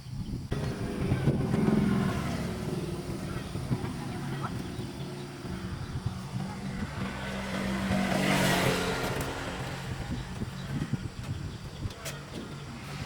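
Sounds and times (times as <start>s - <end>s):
engine running: 0.5s - 13.0s
rush of noise: 0.5s - 13.0s.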